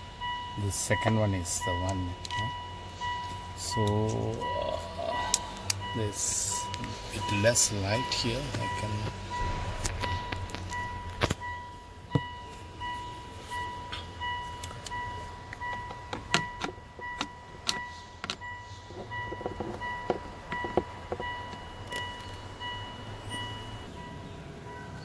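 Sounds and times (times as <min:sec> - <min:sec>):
car warning chime beeping: 0:00.0 - 0:25.0.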